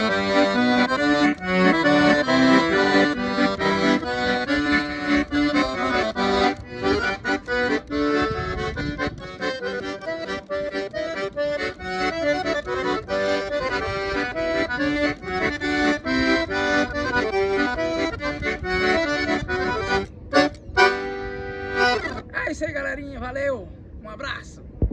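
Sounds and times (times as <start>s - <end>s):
accordion playing lively tune: 0.0s - 22.3s.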